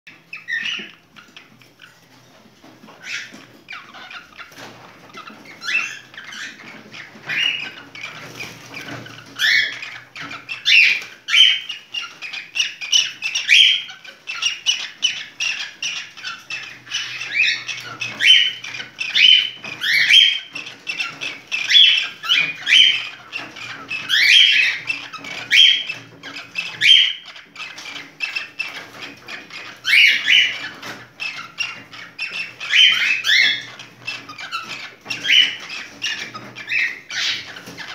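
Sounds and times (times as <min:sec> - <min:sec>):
cockatiel chirping and whistling: 0:00.1 - 0:02.0, 0:02.9 - 0:37.9
cockatiel squawks: 0:05.1 - 0:37.9.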